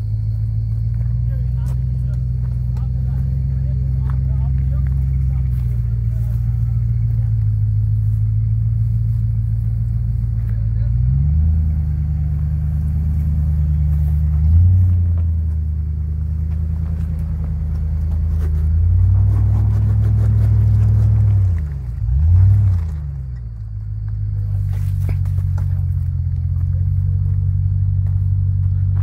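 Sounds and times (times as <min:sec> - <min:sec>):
engine revving at low speed: 0:00.0 - 0:29.0.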